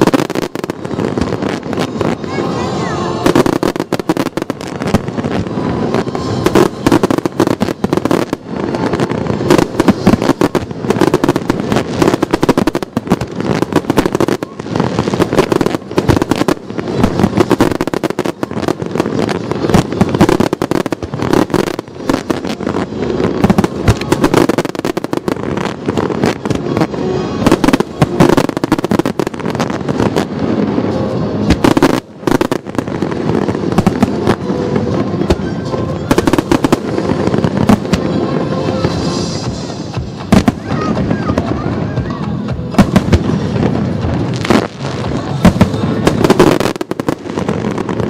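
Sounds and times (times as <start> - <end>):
fireworks bursting and crackling: 0.0 - 48.0.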